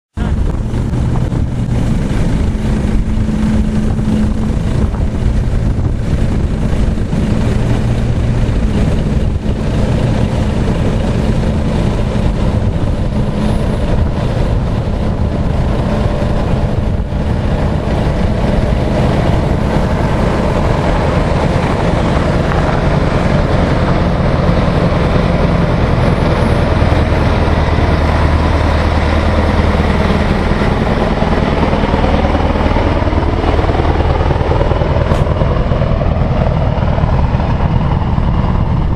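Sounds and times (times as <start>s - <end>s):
truck diesel engine running: 0.1s - 38.9s.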